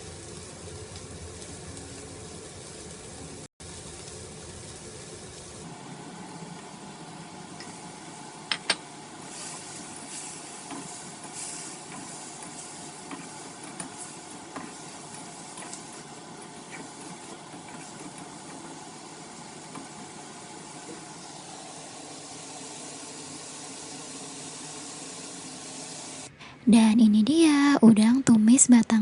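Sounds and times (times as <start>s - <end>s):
food sizzling in frying pan: 0.0s - 26.3s.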